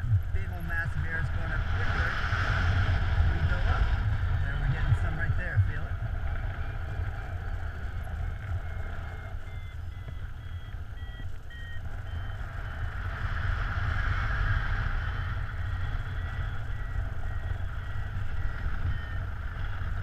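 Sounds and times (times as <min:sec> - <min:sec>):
variometer beeping: 0:00.0 - 0:20.0
wind on microphone: 0:00.0 - 0:20.0.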